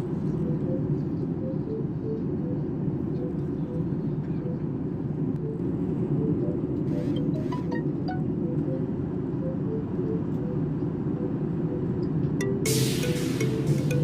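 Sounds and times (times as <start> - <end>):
airliner cabin engine and airflow rush: 0.0 - 14.0.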